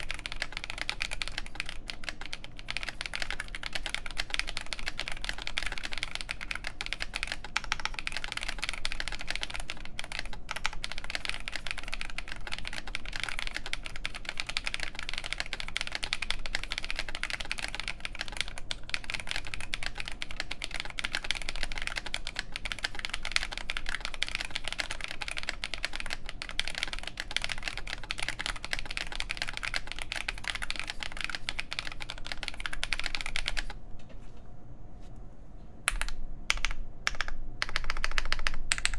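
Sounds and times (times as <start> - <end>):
fast typing on mechanical keyboard: 0.0 - 33.8, 35.9 - 38.9.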